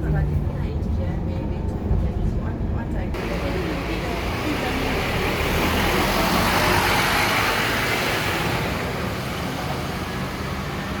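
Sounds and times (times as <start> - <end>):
bus engine rumble: 0.0 - 11.0
tyre and road noise: 0.0 - 11.0.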